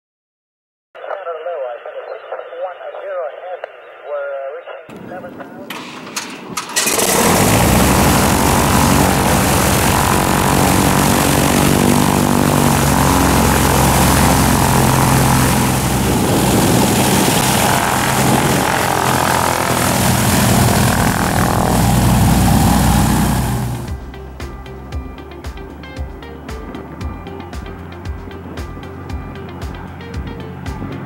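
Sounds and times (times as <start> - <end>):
airplane engine drone: 4.9 - 31.0.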